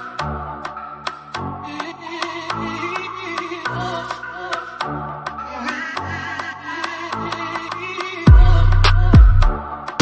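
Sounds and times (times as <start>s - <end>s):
electronic music with ticking beat: 0.0s - 10.0s.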